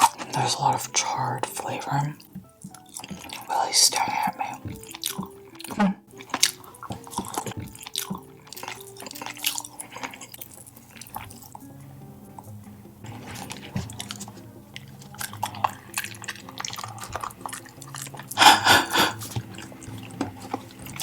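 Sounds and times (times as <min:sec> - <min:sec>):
soft background music: 0:00.0 - 0:21.0
wet chewing: 0:00.0 - 0:21.0.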